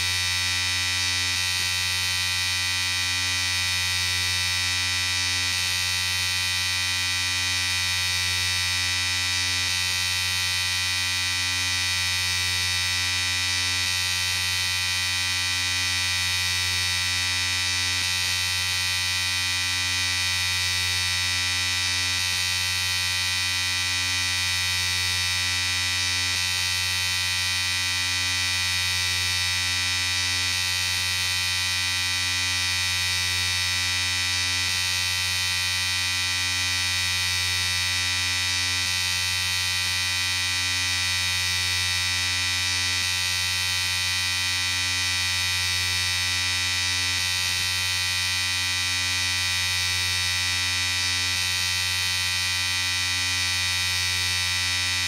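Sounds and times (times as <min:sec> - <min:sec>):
electric shaver buzzing: 0:00.0 - 0:55.0.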